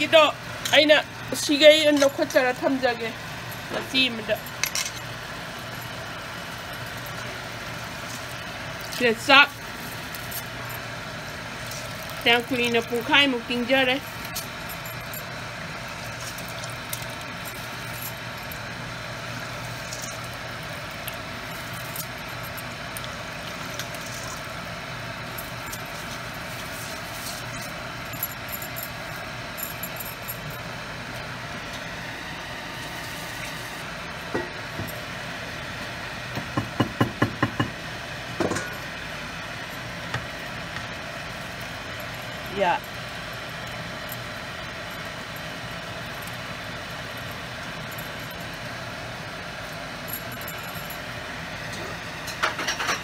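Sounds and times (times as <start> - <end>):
kitchen hum: 0.0 - 53.0.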